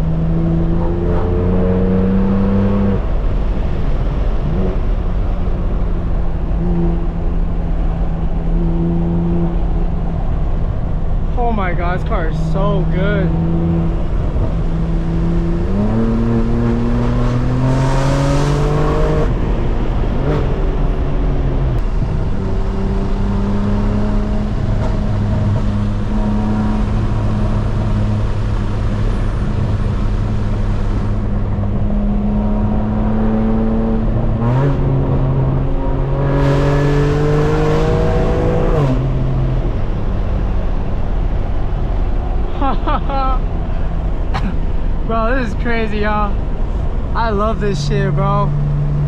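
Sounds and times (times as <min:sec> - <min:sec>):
car engine accelerating hard: 0:00.0 - 0:11.3, 0:12.2 - 0:49.0.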